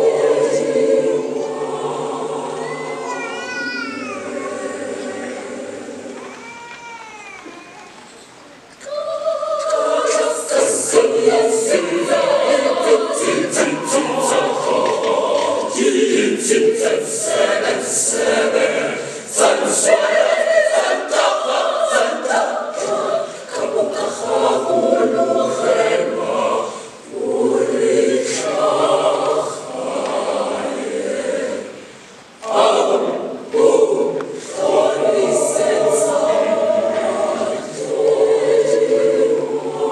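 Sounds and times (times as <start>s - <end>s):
choir singing unaccompanied: 0.0s - 6.6s, 8.8s - 39.9s.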